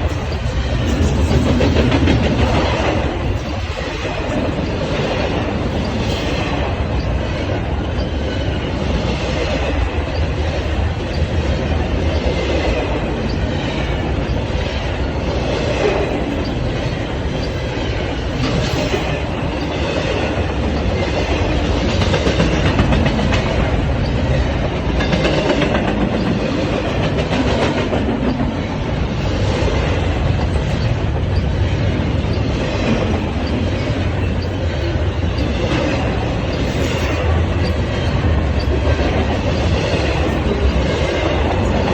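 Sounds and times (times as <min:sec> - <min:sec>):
steel wheels rumbling on rail: 0:00.0 - 0:41.9
wheels clicking over rail joints: 0:00.0 - 0:41.9.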